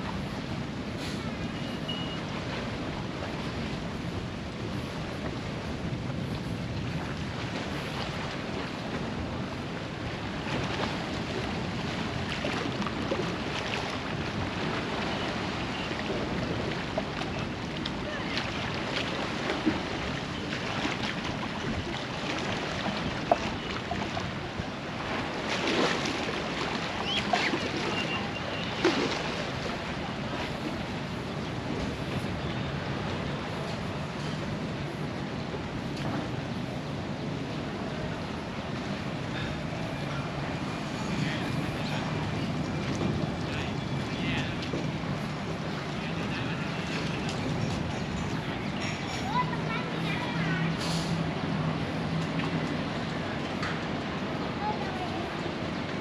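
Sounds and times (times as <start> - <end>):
waves washing against rocks: 2.3 - 48.2.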